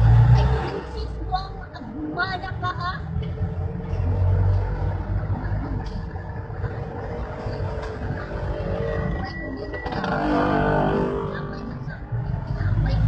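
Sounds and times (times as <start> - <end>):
passengers talking: 0.0 - 13.0
vehicle engine rumbling: 0.0 - 13.0.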